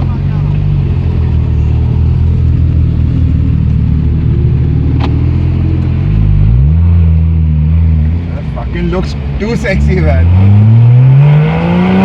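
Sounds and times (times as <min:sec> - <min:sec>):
sports car engine droning: 0:00.0 - 0:12.0.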